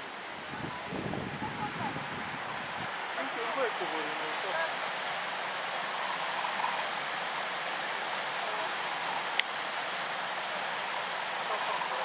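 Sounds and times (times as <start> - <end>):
water rushing through waterfall: 0.0 - 12.0.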